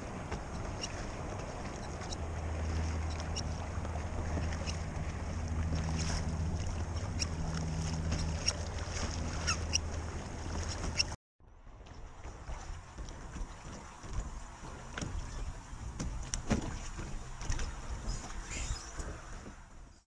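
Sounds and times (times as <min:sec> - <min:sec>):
water lapping against a kayak: 0:00.0 - 0:20.0.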